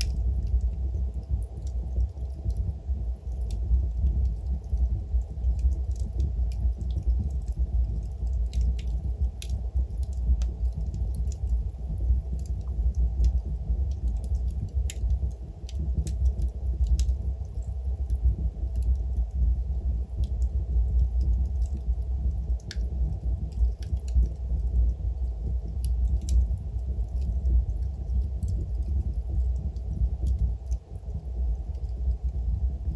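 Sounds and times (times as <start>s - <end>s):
fire crackles and pops: 0.0s - 32.9s
log fire rumbling: 0.0s - 32.9s.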